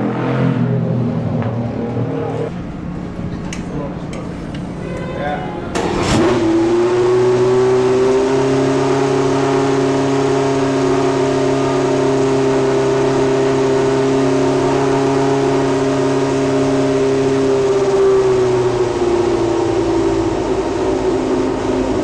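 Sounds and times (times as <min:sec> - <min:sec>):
race car engine at high revs: 0:00.0 - 0:03.0, 0:05.7 - 0:22.0.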